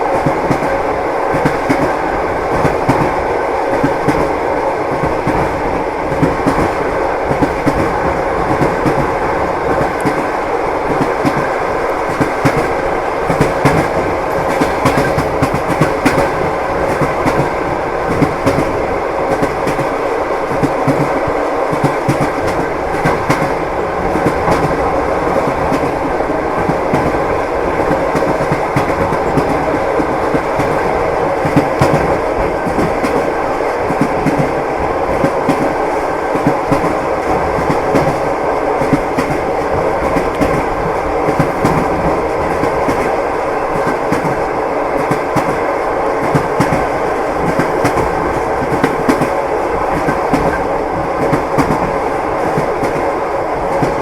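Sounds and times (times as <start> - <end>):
railway carriage rumble: 0.0 - 54.0
train wheels clickety-clack: 0.0 - 54.0.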